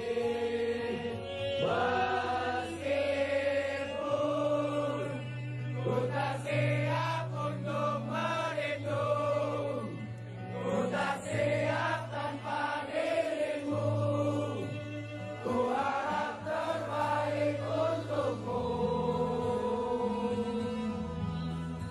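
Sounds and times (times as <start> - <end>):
choir-like singing with low notes: 0.0 - 21.9.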